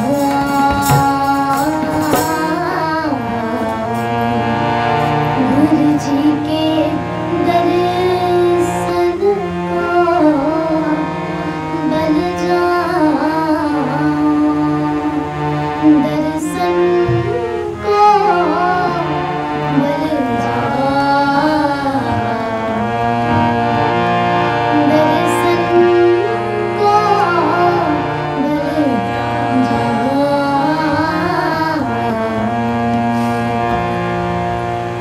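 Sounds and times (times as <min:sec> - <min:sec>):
girls singing: 0:00.0 - 0:04.3, 0:05.1 - 0:23.0, 0:24.7 - 0:32.4
harmonium chords: 0:00.0 - 0:35.0
tabla: 0:00.0 - 0:35.0.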